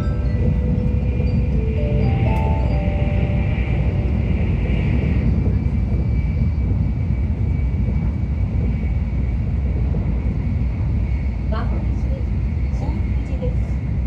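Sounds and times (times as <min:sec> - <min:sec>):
train rumble inside cabin: 0:00.0 - 0:14.0.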